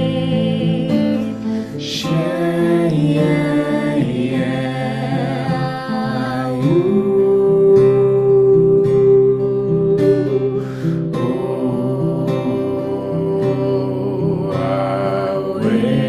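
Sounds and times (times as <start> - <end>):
acoustic guitar: 0.0 - 16.0
person chanting long vowels: 0.0 - 16.0.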